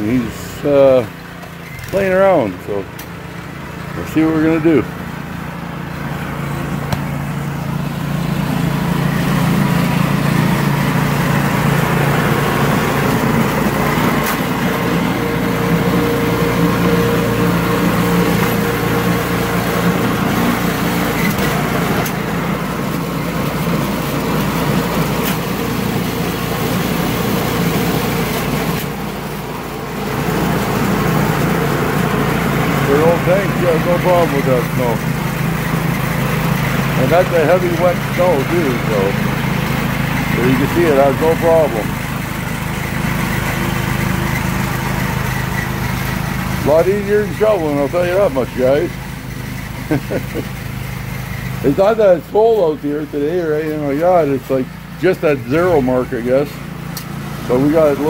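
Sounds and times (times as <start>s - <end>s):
snowblower engine running under load: 0.0s - 58.0s.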